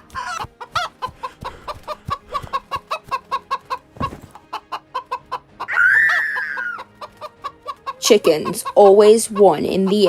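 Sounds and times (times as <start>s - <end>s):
chickens clucking rapidly: 0.0s - 10.0s
chicken drawn-out call: 0.1s - 10.0s.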